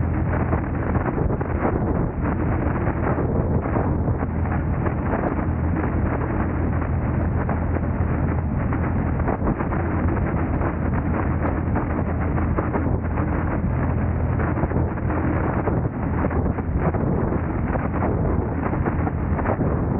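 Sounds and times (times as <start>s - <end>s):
wind on microphone: 0.0s - 19.9s.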